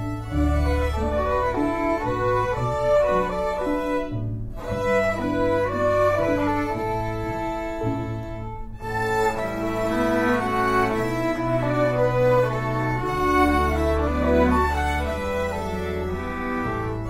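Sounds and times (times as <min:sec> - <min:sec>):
lower string lines: 0:00.0 - 0:17.0
violin melody: 0:00.0 - 0:17.0.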